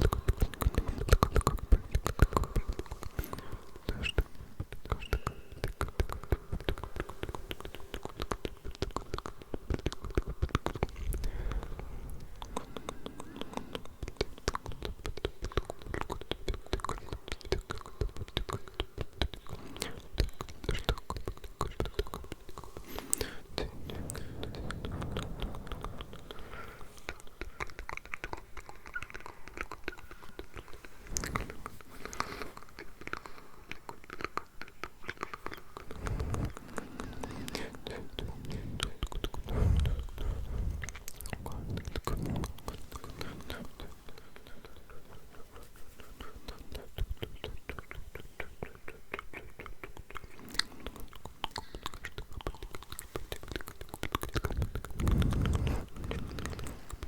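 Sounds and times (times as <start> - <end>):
wet mouth clicks and smacks: 0.0 - 57.0.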